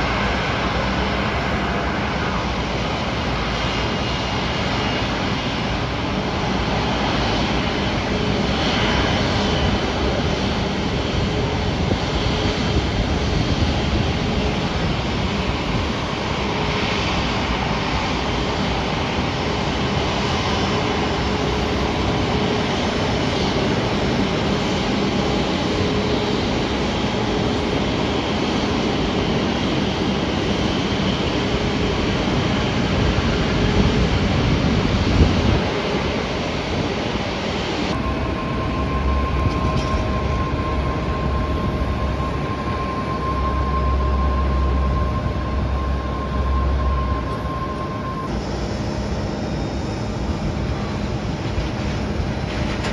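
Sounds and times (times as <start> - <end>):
jet engines rumbling: 0.0 - 52.9.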